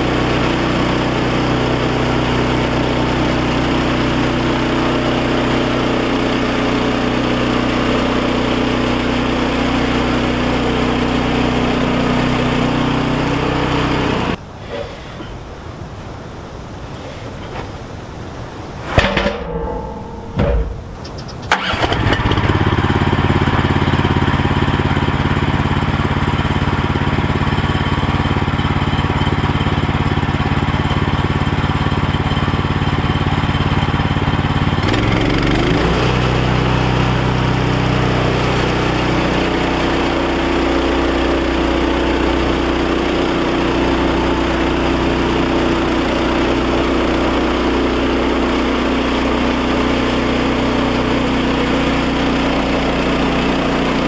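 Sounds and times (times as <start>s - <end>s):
small gasoline engine running: 0.0s - 14.4s, 21.4s - 54.0s.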